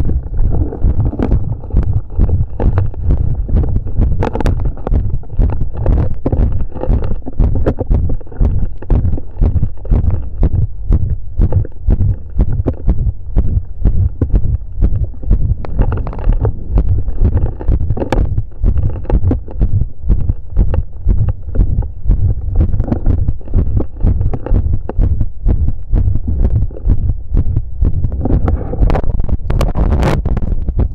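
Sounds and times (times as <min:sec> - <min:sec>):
heartbeat thumps: 0:00.0 - 0:30.9.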